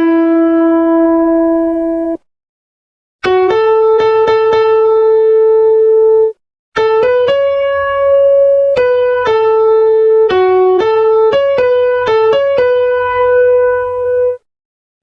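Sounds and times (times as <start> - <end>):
electronic keyboard melody: 0.0 - 2.2, 3.2 - 14.5.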